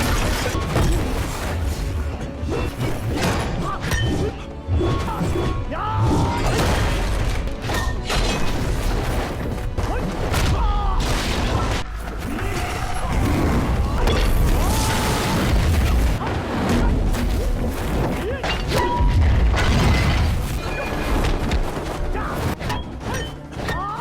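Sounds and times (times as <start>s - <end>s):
film music score: 0.0s - 24.0s.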